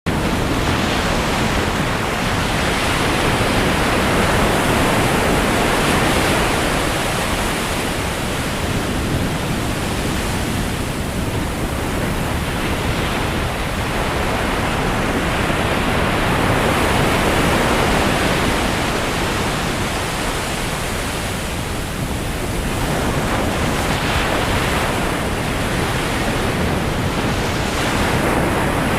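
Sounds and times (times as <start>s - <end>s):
ocean waves rushing: 0.1s - 28.9s.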